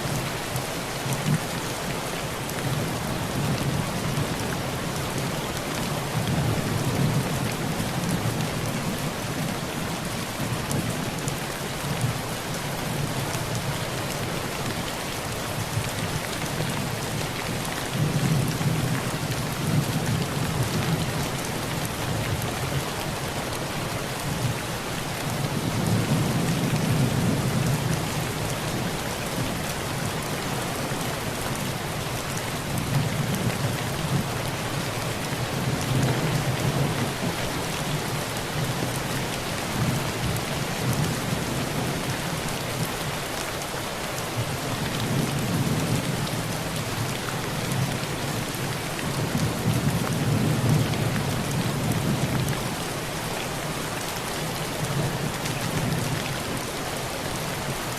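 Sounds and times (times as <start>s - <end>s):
heavy rain on a tin roof: 0.0s - 57.9s.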